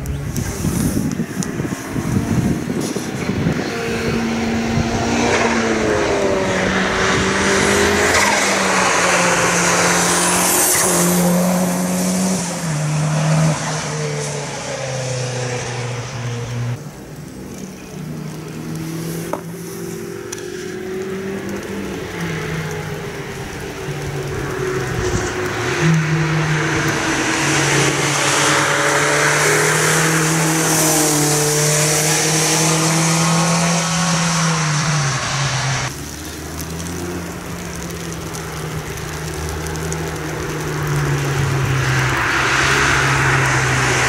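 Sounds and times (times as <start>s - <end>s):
car engine approaching: 0.0s - 44.0s
tyres hissing on wet tarmac: 0.0s - 44.0s
car engine at high revs: 0.1s - 44.0s.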